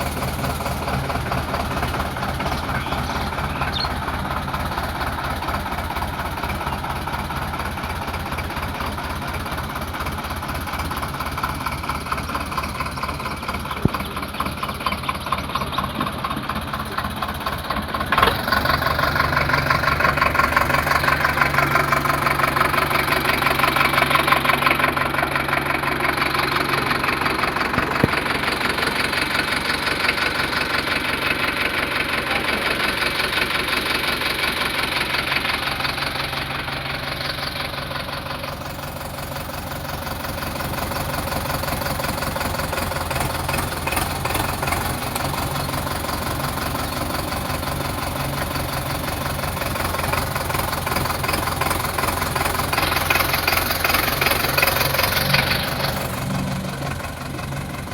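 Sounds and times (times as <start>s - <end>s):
tractor diesel engine knocking: 0.0s - 57.9s.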